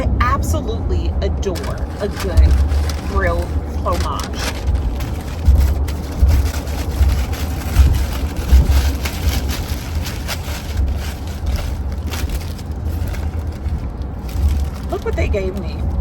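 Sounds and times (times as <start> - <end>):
car road rumble: 0.0 - 16.0
paper bag crinkling: 0.2 - 16.0.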